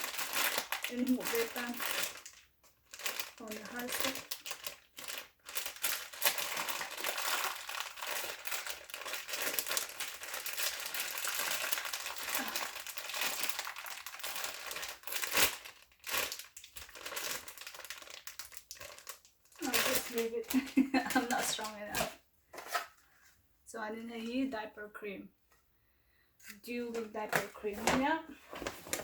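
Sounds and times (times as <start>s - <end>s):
plastic packaging crinkling: 0.0s - 23.0s, 26.7s - 29.0s.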